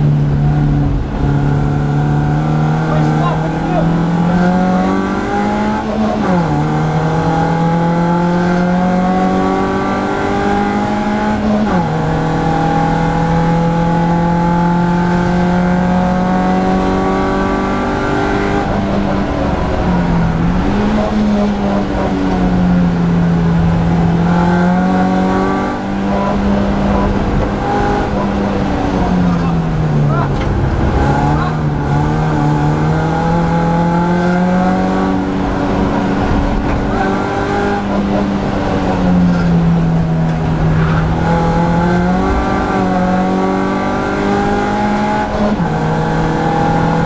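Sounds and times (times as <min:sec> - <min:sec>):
race car engine pulling hard: 0:00.0 - 0:47.0.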